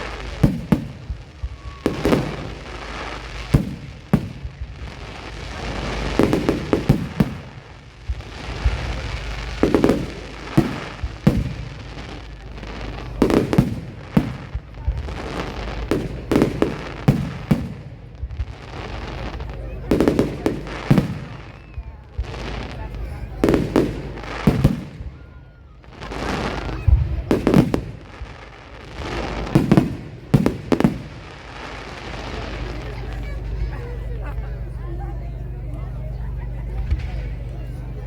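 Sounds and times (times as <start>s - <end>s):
fireworks bursting with sharp bangs: 0.0s - 35.9s, 36.5s - 38.0s
steady background rumble: 0.0s - 38.0s.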